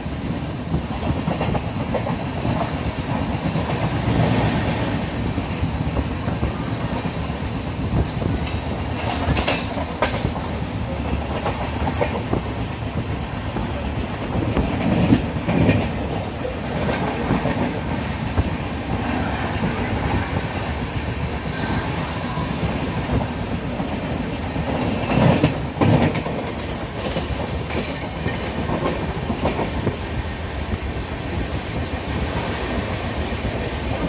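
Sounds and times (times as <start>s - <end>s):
train wheels rumbling on track: 0.0s - 34.0s
wheels clacking over rail joints: 0.7s - 34.0s.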